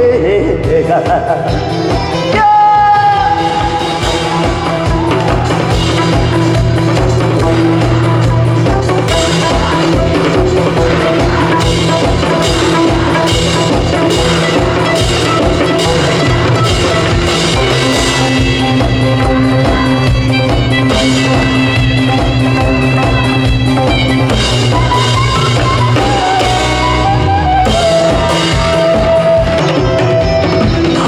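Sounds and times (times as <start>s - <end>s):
upbeat band with drums and bass: 0.0s - 31.0s
vibrato lead melody: 1.6s - 31.0s.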